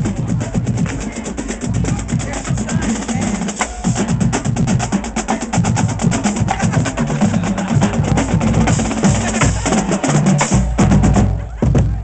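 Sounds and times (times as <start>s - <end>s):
fast snare drum strokes: 0.0s - 11.8s
bass drums: 0.0s - 12.0s.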